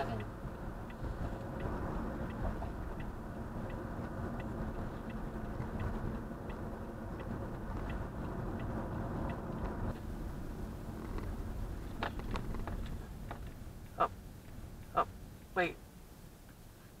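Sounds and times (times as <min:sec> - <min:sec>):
turn signal clicking: 0:00.0 - 0:10.1, 0:10.9 - 0:15.6
road and engine noise: 0:00.0 - 0:17.0.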